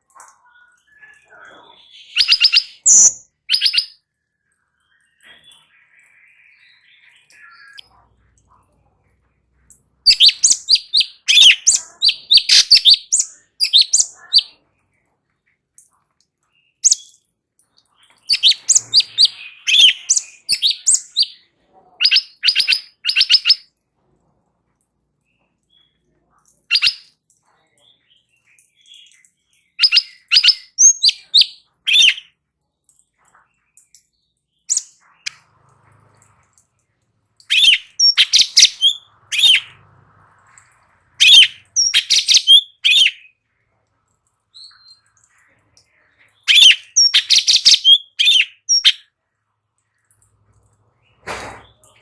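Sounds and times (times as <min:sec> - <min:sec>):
songbird singing chirpy notes: 0:00.0 - 0:24.0, 0:24.7 - 0:52.0.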